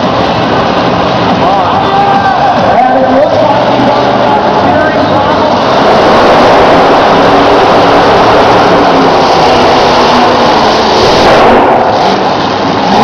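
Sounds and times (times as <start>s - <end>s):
truck engine heavy throttle: 0.0s - 13.0s.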